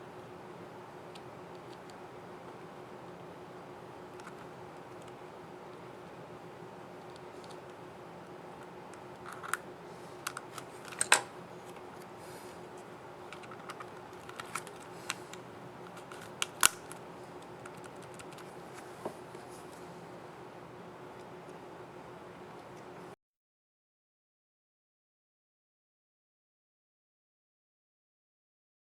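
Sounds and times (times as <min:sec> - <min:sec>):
faint steady hum: 0:00.0 - 0:23.2.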